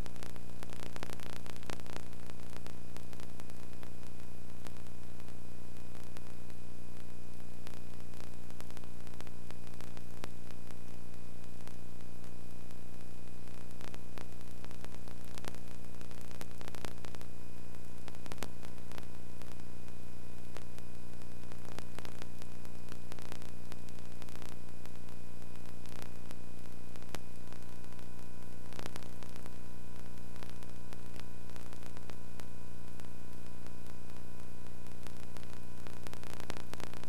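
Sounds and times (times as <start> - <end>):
constant hiss: 0.0 - 37.0
crackling clicks: 0.0 - 37.0
electrical hum: 0.0 - 37.0.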